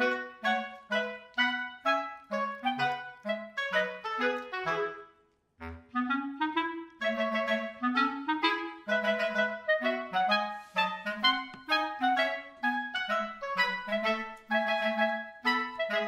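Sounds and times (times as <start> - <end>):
woodwind melody in quick notes: 0.0 - 16.0.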